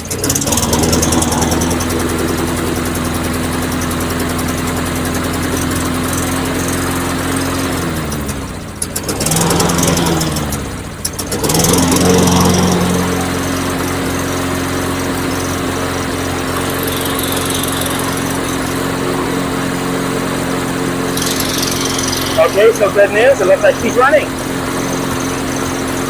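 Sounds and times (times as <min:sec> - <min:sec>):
push mower engine running unevenly: 0:00.0 - 0:26.0.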